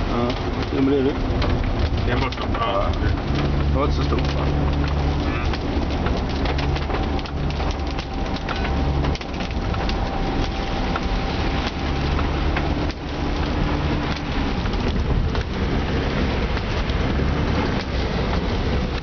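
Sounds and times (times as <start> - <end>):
car engine and road noise: 0.0 - 19.0
heavy rain on car roof: 0.0 - 19.0.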